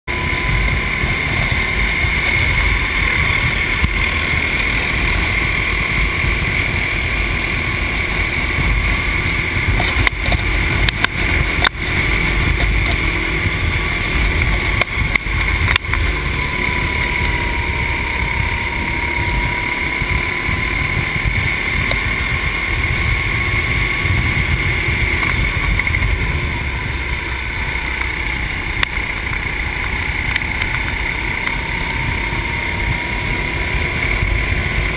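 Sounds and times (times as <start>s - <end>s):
kart engine running: 0.0s - 34.9s
wind rumble on microphone: 0.1s - 34.9s.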